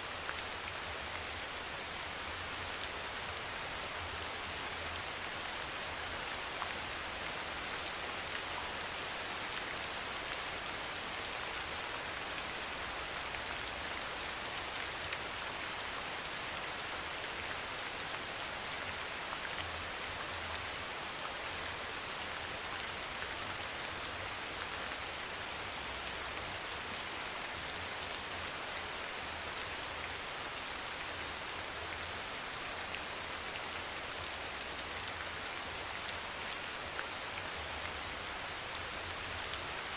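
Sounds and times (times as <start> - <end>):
soft rain: 0.0 - 39.9.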